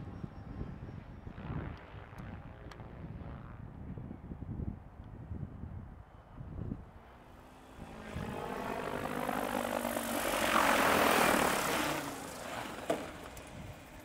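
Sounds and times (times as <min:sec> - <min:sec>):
rc helicopter rotor whoosh: 0:00.0 - 0:04.8, 0:06.2 - 0:14.0.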